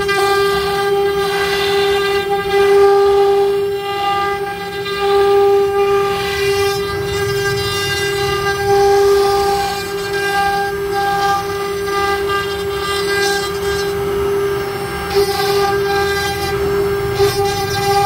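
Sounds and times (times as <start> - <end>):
bit cutting wood rasp: 0.0 - 18.0
router spindle whine: 0.0 - 18.0.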